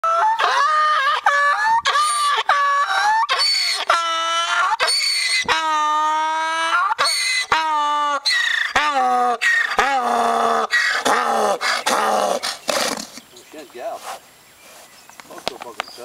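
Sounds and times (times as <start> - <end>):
donkey braying: 0.0 - 13.3.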